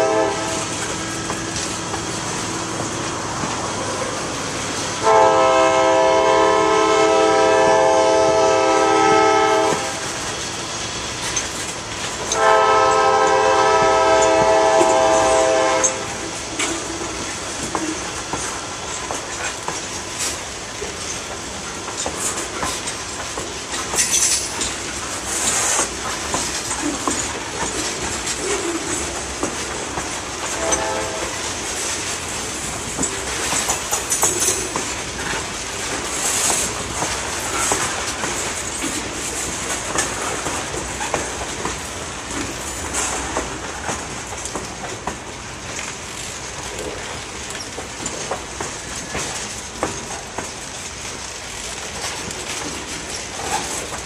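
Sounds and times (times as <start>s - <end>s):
train wheels clanking over rail joints: 0.0s - 54.0s.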